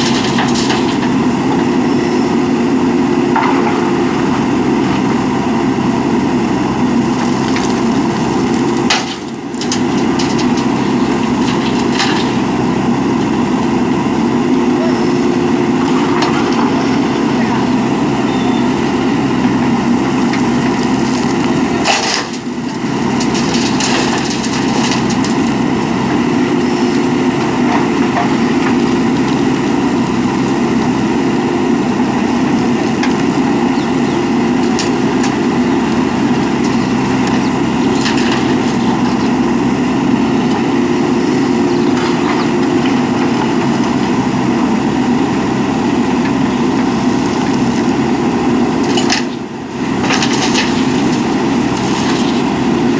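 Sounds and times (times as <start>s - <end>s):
backhoe diesel engine running: 0.0s - 52.9s.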